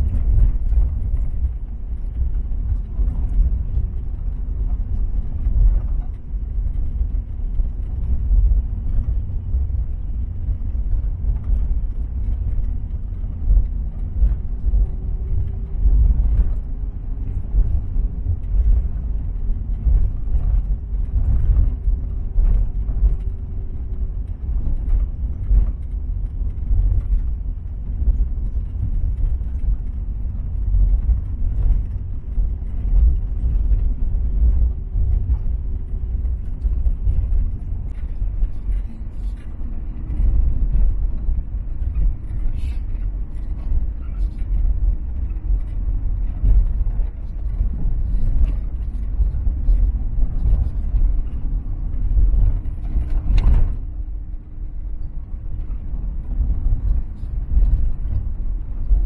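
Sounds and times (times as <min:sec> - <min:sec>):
engine and tyres rumbling: 0:00.0 - 0:59.0
faint steady hum: 0:00.0 - 0:59.0
small rattles and knocks: 0:00.0 - 0:59.0.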